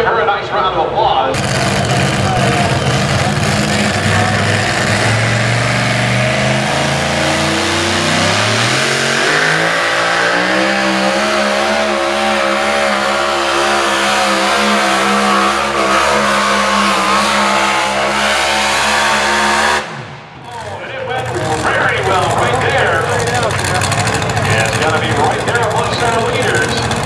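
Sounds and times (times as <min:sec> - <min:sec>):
truck engine revving: 0:01.3 - 0:27.0.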